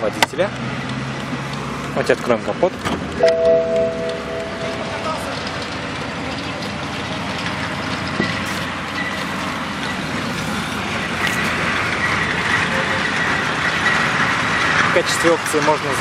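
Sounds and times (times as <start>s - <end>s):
vehicle noise: 0.0s - 16.0s.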